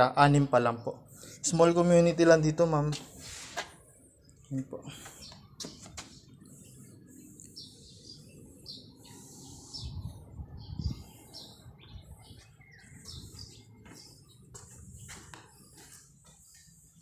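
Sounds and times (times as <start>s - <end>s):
small birds chirping: 0.3s - 17.0s.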